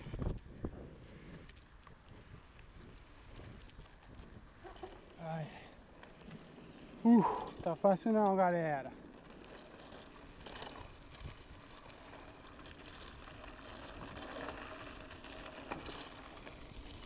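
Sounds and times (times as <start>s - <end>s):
bike tyres on dirt road: 0.0s - 17.0s.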